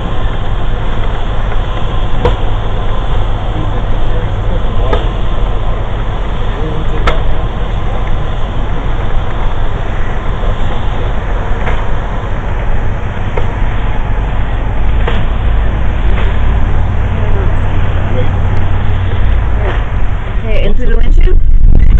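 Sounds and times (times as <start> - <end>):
bulldozer diesel engine rumble: 0.0 - 21.9.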